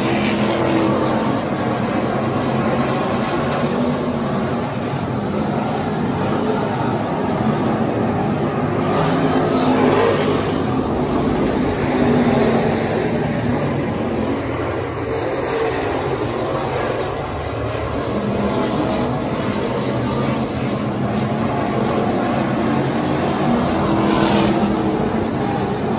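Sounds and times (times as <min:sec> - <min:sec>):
race car engines at speed: 0:00.0 - 0:25.9.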